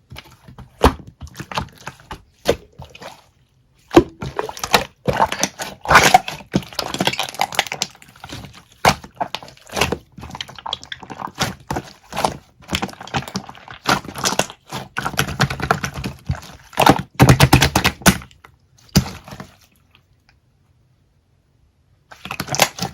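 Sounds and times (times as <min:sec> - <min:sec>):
slime squished by hand: 0:00.0 - 0:19.8.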